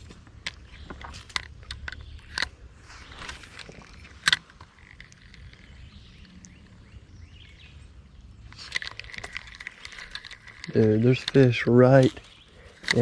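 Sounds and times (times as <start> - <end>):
small clicks and ticks: 0.0 - 6.8, 8.2 - 13.0.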